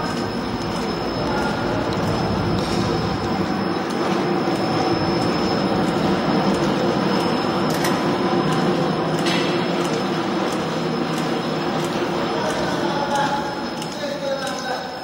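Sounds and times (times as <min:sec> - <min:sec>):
thin high whine: 0:00.0 - 0:14.2
machine running: 0:00.0 - 0:15.0.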